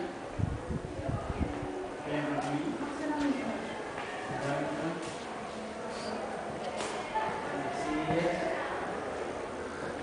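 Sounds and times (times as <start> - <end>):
people talking in echoing room: 0.0 - 10.0.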